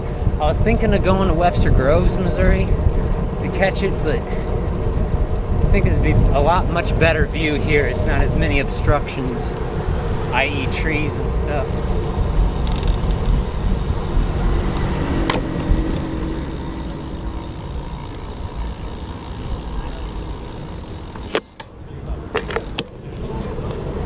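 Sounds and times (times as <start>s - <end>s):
wind and road rumble: 0.0s - 24.0s
car traffic: 1.9s - 24.0s.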